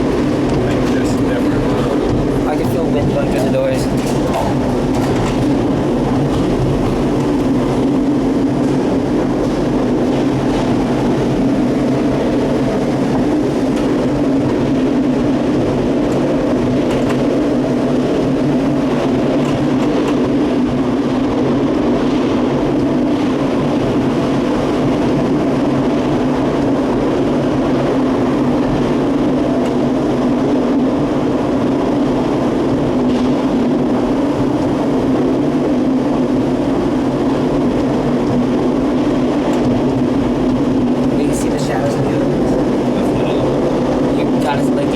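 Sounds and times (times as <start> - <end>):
constant low hum: 0.0 - 44.9
tram mechanical rumble: 0.0 - 44.9.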